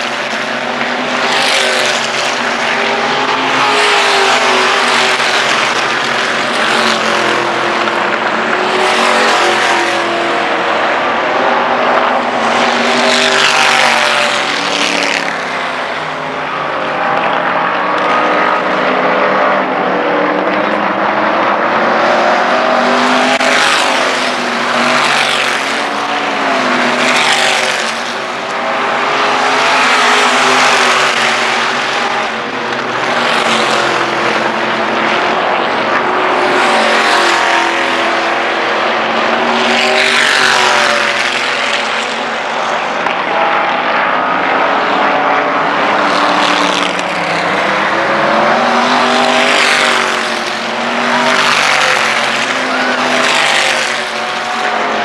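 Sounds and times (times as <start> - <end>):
race car engines at full throttle: 0.0 - 55.0.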